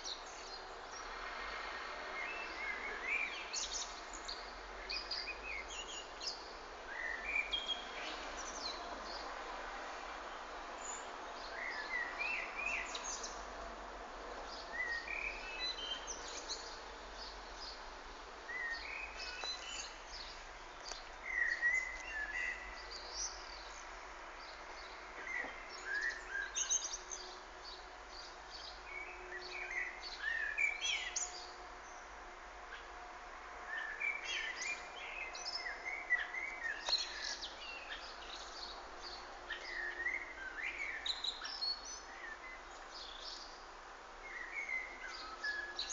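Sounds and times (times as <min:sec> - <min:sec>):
small birds chirping and singing: 0:00.0 - 0:09.4, 0:10.3 - 0:13.5, 0:14.4 - 0:33.0, 0:33.7 - 0:45.9
steady background hiss: 0:00.0 - 0:45.9.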